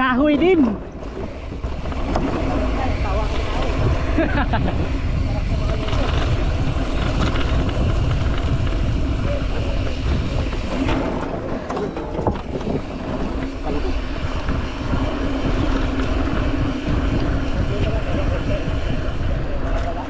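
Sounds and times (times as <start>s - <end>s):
bike rolling over dirt trail: 0.0s - 20.0s
wind buffeting microphone: 0.0s - 20.0s.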